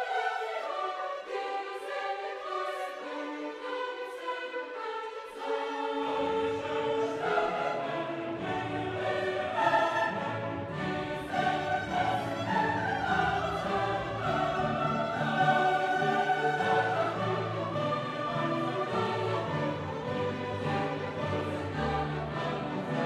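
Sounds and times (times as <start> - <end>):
choir and orchestra music: 0.0 - 23.0.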